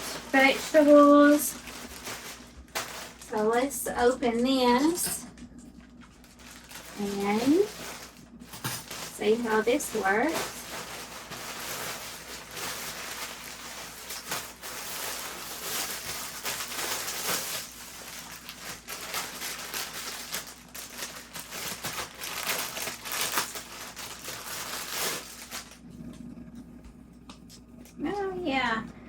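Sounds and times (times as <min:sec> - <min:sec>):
packaging crinkling: 0:00.0 - 0:25.9.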